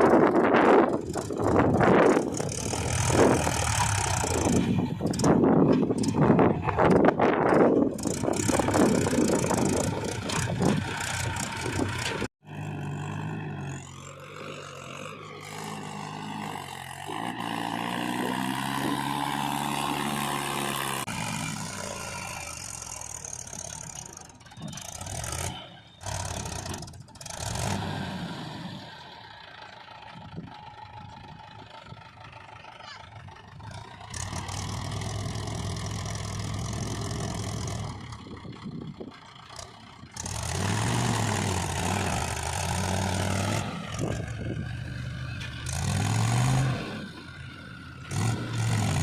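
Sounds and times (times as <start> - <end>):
heavy machinery diesel engines: 0.0 - 49.0.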